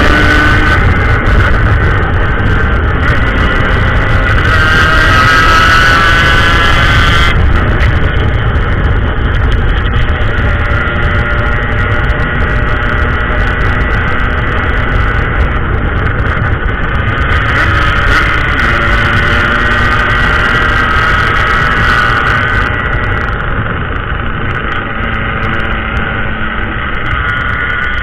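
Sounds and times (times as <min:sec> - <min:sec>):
two-stroke motorcycle engine running: 0:00.0 - 0:28.0
wind rumble on microphone: 0:00.0 - 0:28.0.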